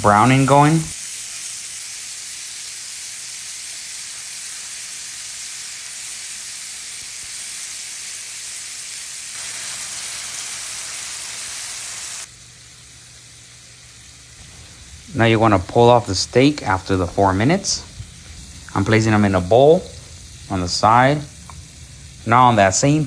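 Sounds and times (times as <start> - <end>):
steak sizzling in a pan: 0.2 - 23.0.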